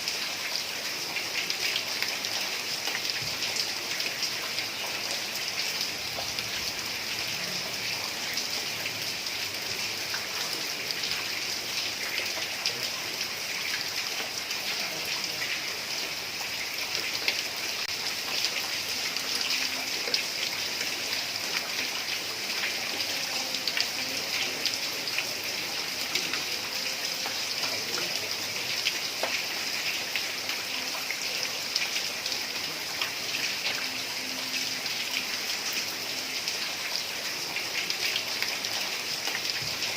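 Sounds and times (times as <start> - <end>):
heavy rain on roof tiles: 0.0 - 39.9.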